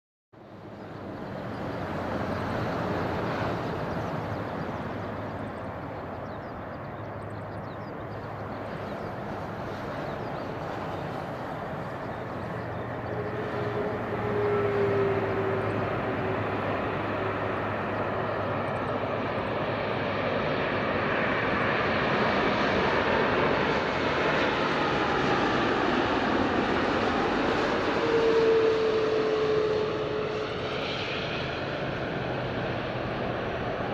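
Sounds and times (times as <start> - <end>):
airliner jet engines rushing: 0.4 - 33.9
jet engine whine: 0.4 - 33.9.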